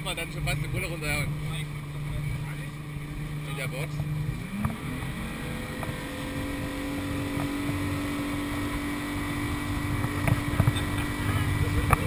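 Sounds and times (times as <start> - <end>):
motorboat engine running: 0.0 - 12.0
water noise: 0.0 - 12.0
wind: 0.0 - 12.0.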